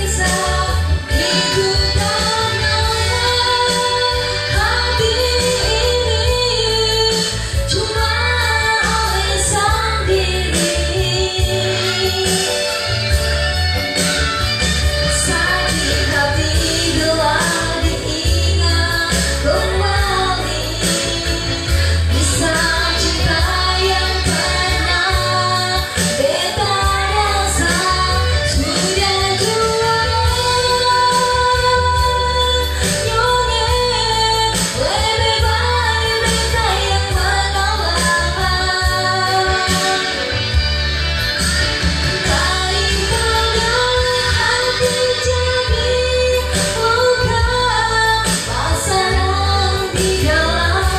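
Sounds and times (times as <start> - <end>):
backing track with bass and drums: 0.0 - 50.9
woman singing pop song: 0.0 - 50.9.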